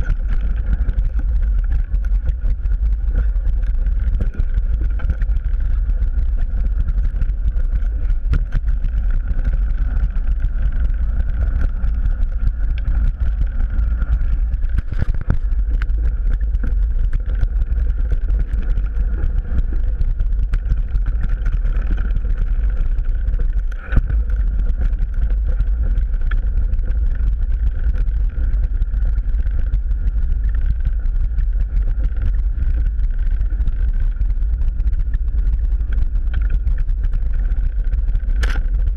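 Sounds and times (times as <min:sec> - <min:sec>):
clatter of tyres and frame: 0:00.0 - 0:38.9
mountain bike trail rumble: 0:00.0 - 0:38.9
wind buffeting: 0:00.0 - 0:38.9.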